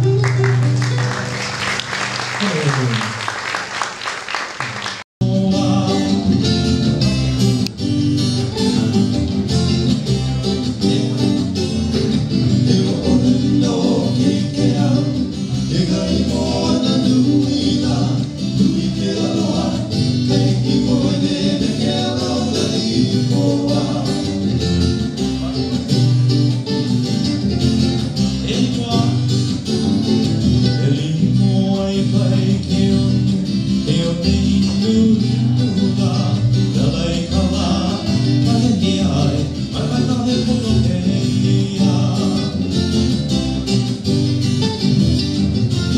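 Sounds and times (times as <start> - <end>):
bass guitar: 0.0 - 3.2, 5.2 - 45.9
strummed guitars: 0.0 - 3.8, 4.8 - 45.9.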